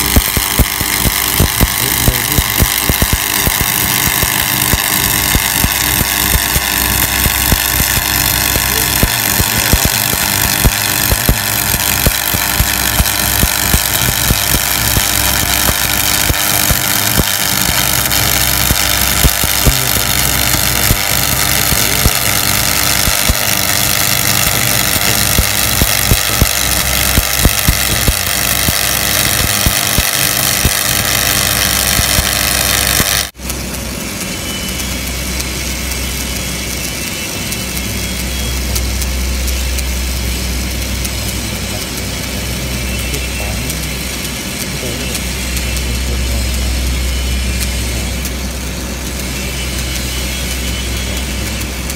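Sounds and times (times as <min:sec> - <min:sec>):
low steady hum: 0:00.0 - 0:51.9
welding arc crackling: 0:00.0 - 0:51.9.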